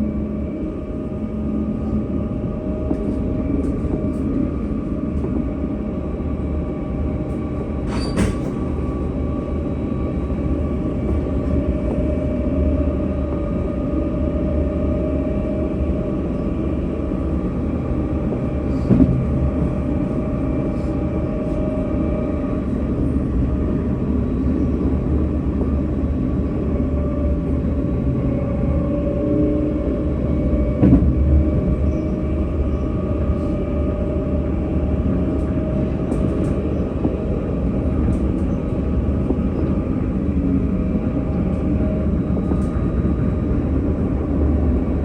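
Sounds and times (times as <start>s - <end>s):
tram rumbling on rails: 0.0s - 45.0s.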